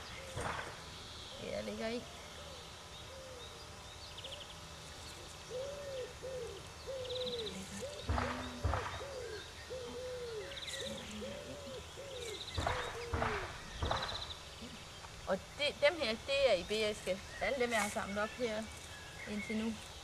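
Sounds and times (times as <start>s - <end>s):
bird cooing: 0.0s - 0.6s, 1.4s - 3.6s, 5.2s - 18.7s.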